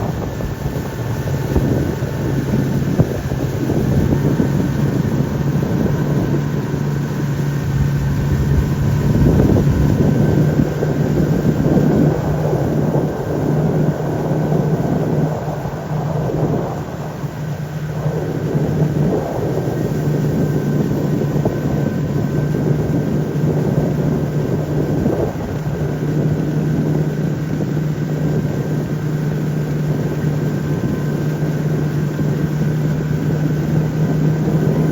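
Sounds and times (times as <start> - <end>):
engine running steadily: 0.0 - 34.9
wind buffeting microphone: 0.0 - 34.9.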